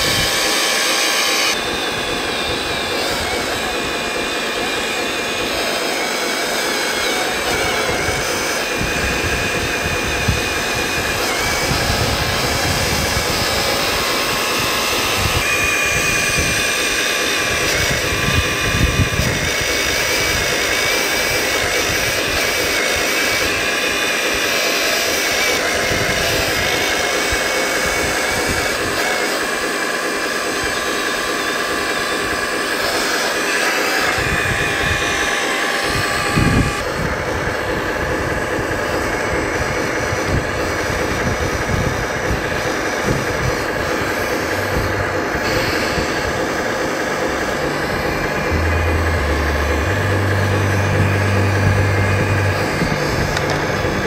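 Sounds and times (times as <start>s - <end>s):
hydraulic pump whining: 0.0s - 54.0s.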